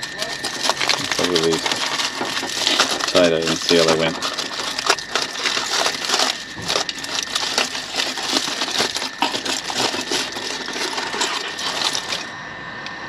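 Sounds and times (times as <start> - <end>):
aluminium foil crinkling: 0.0 - 12.3.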